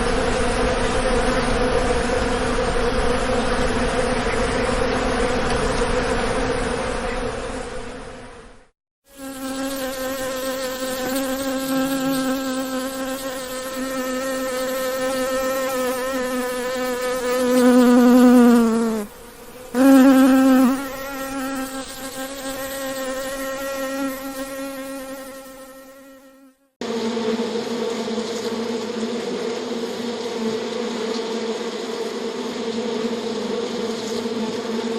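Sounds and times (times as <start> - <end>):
bee buzzing: 0.0 - 7.7, 9.1 - 34.9.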